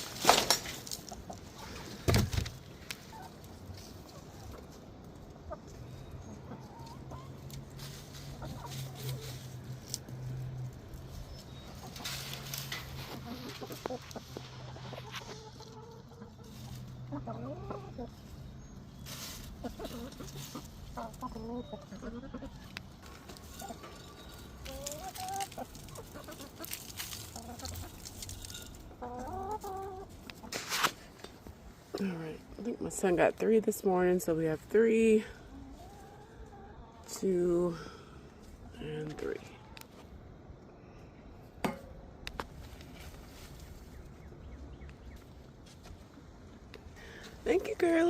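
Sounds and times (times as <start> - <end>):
hens clucking: 0.0 - 40.7.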